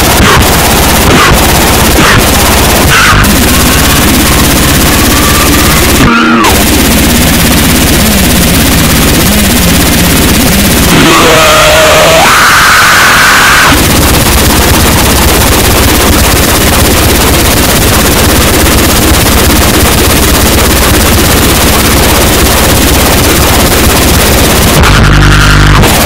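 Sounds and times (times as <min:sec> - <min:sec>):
high held tone: 0:00.0 - 0:22.4
distorted noise music: 0:00.0 - 0:26.0
fast rattling pulse: 0:00.0 - 0:26.0.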